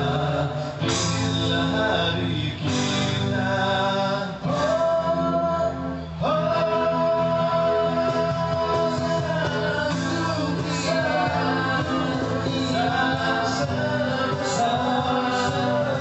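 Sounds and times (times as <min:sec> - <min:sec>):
live band accompaniment: 0:00.0 - 0:16.0.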